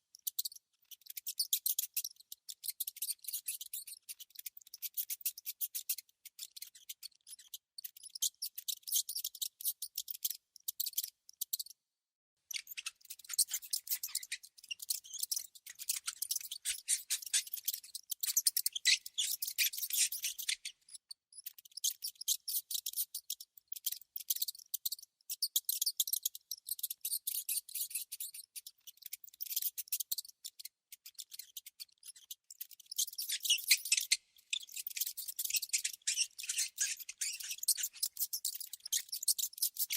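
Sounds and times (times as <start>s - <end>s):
rodent clicking and chittering: 0.1s - 11.8s, 12.5s - 39.9s.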